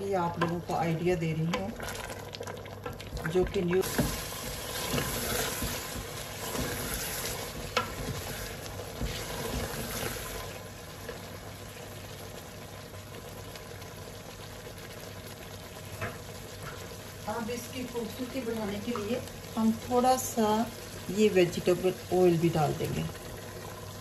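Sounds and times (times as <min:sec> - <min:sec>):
meat sizzling in butter: 0:00.0 - 0:24.0
stirring strokes in a pot: 0:00.0 - 0:24.0.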